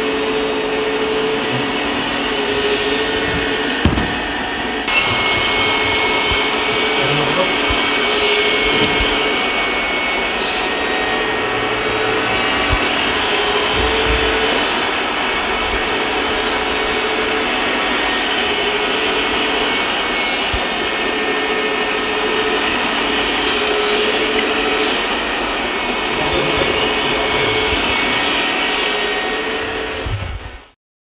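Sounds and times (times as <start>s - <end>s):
small electric motors whirring: 0.0s - 30.6s
whining hydraulic pump tone: 0.0s - 30.8s.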